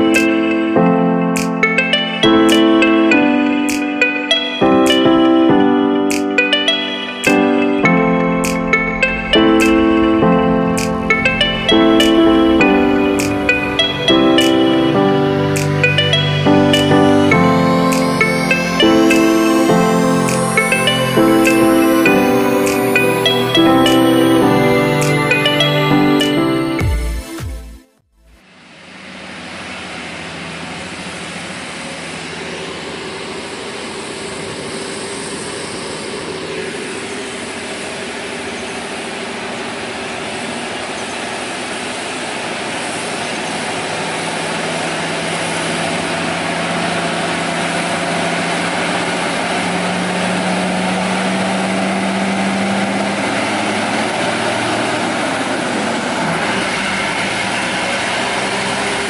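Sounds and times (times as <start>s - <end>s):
truck diesel engine labouring uphill: 0.0s - 59.0s.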